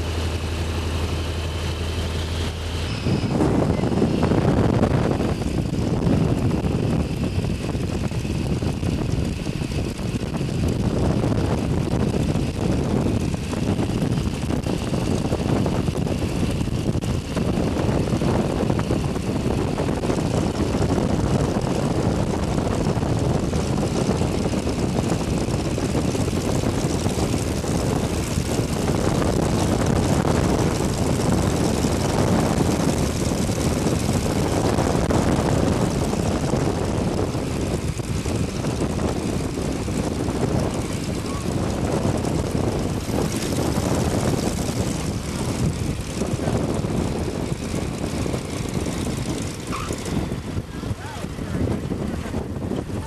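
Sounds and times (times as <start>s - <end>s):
biplane engine and propeller: 0.0s - 53.0s
wind rushing past: 0.0s - 53.0s.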